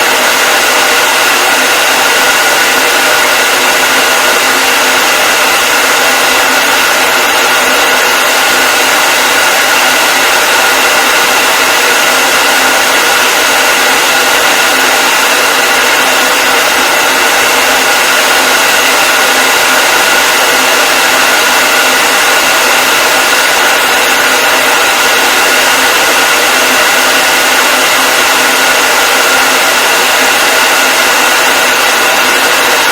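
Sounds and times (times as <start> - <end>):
hair dryer blowing: 0.0 - 32.9.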